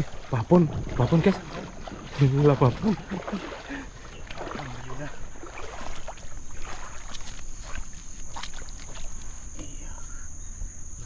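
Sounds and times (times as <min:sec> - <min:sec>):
river water splashing: 0:00.0 - 0:11.0.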